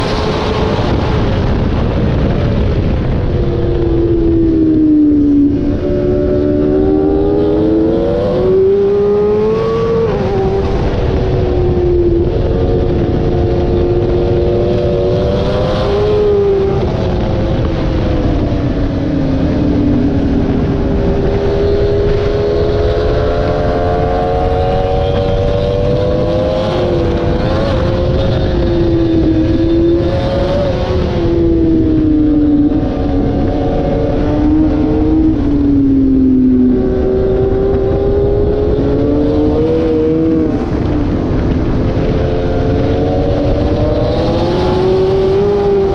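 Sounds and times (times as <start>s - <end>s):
motorcycle engine at racing speed: 0.0s - 45.9s
wind rush: 0.0s - 45.9s.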